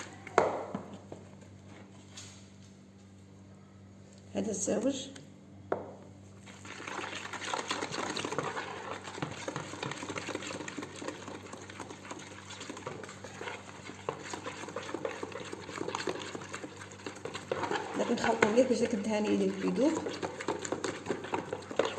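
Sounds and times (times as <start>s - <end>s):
batter stirred in mixing bowl: 0.0s - 2.1s, 6.2s - 21.9s.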